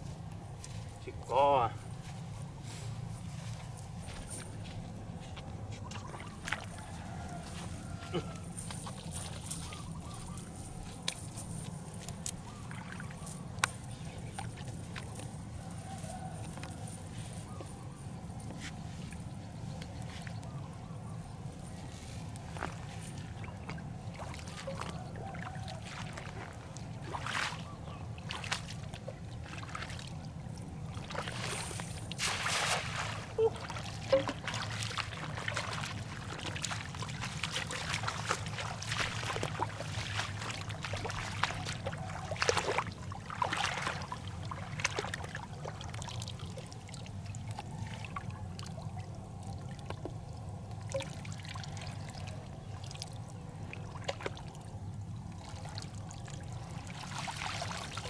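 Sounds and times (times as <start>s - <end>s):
water splashing and trickling: 0.1s - 58.0s.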